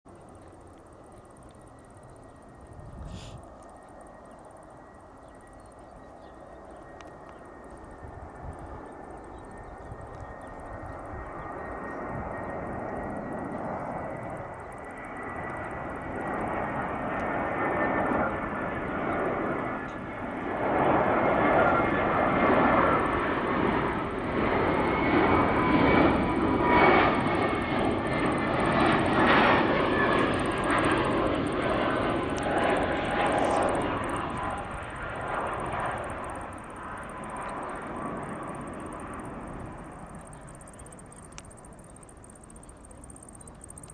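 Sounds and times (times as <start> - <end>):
high jet whine: 0.1 - 43.9
jet engines approaching: 0.1 - 43.9.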